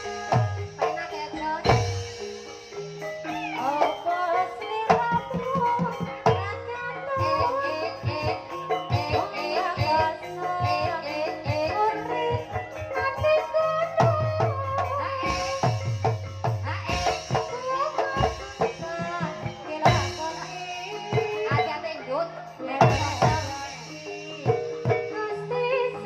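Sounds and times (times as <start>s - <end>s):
person singing ornamented vocal line: 0.0s - 2.4s, 3.2s - 15.9s, 16.6s - 26.0s
hand-drum strokes: 0.0s - 26.0s.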